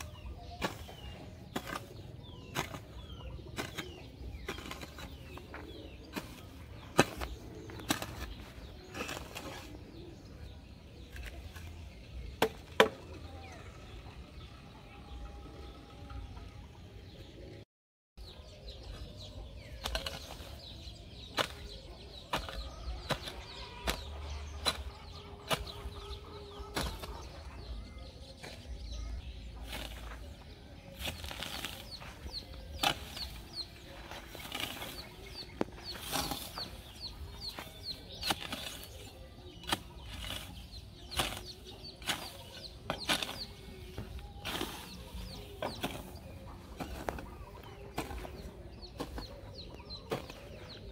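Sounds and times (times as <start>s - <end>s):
hoe chopping and scraping soil: 0.0s - 13.0s, 18.4s - 50.9s.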